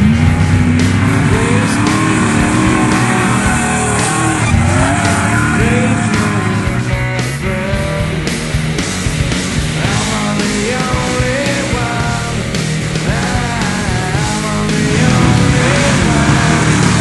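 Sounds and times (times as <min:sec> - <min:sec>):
music soundtrack: 0:00.0 - 0:17.0
truck engine revving: 0:00.0 - 0:17.0.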